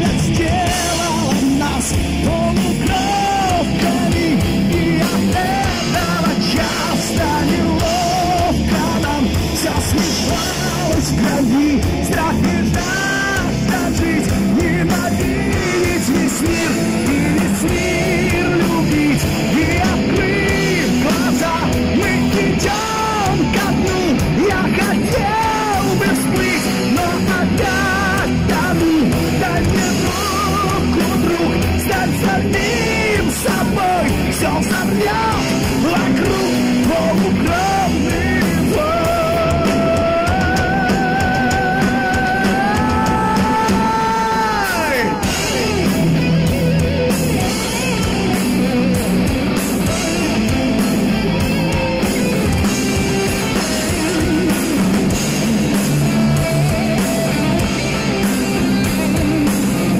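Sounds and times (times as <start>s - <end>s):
heavy metal band playing: 0.0s - 59.9s
singer yelling and singing: 0.0s - 59.9s.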